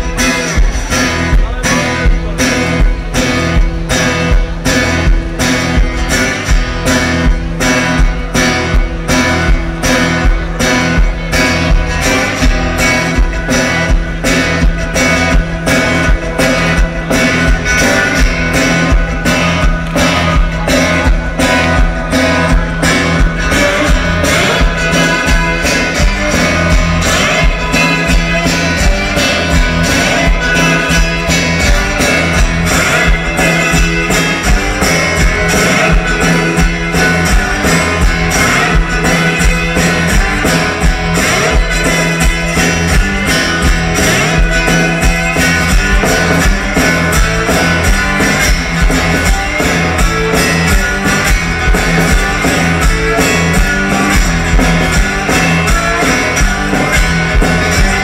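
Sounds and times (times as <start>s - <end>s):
driving drum beat: 0.0s - 58.0s
electric guitar rock music: 0.0s - 58.0s.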